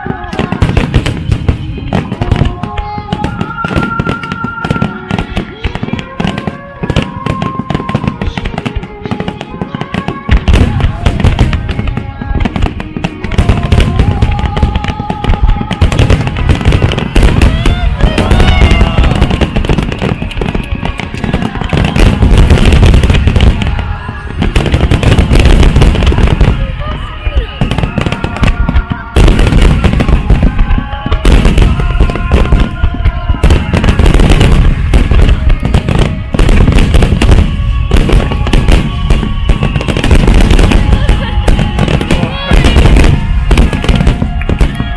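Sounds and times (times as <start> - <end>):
fireworks bursting and crackling: 0.0 - 44.9
music over loudspeakers: 0.0 - 44.9.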